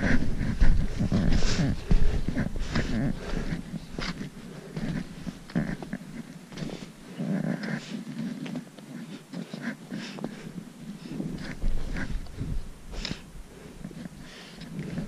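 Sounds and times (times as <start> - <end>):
heavy breathing: 0.0 - 15.0.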